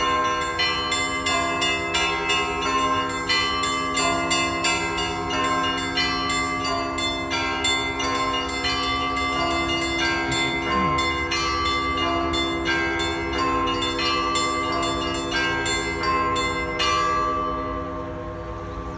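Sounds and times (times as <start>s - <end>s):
hum of large bells: 0.0s - 18.9s
small church bells struck rapidly: 0.0s - 18.9s.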